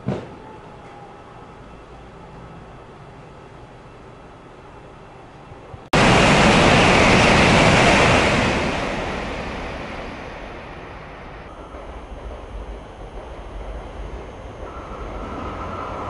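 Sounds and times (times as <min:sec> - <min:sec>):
high-speed train passing: 0:00.0 - 0:16.0.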